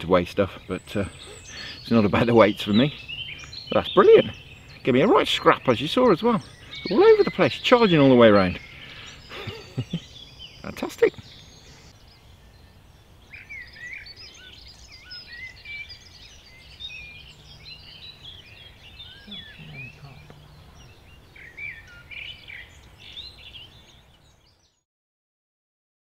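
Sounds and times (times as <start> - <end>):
songbirds chirping: 0.0 - 24.8.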